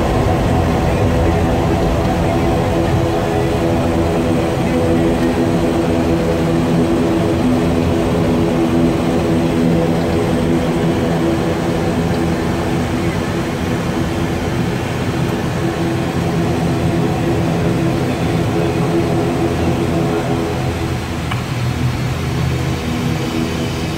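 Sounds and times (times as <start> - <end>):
turboprop engines humming: 0.0 - 23.9.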